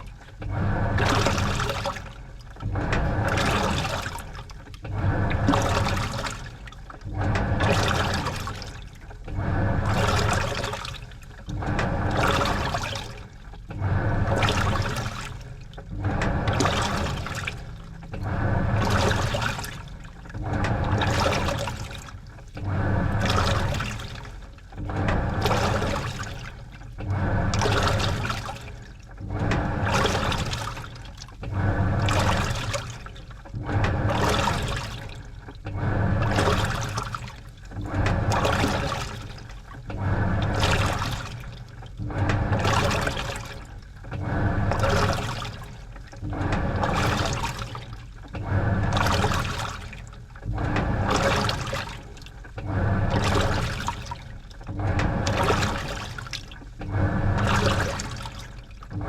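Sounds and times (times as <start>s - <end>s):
washing machine water sloshing: 0.0s - 59.0s.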